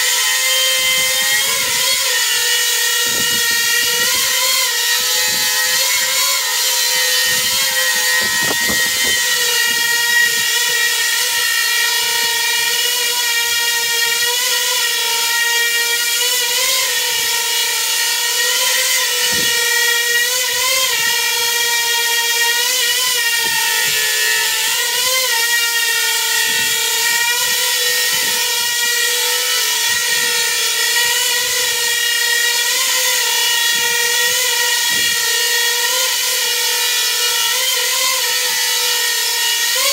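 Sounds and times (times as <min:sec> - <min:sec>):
drone motors whining in hover: 0:00.0 - 0:39.9.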